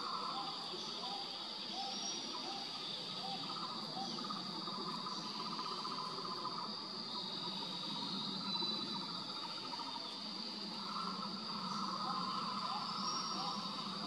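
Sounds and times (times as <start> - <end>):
high-pitched insect drone: 0.0 - 14.0
low pulsing insect trill: 0.0 - 14.0.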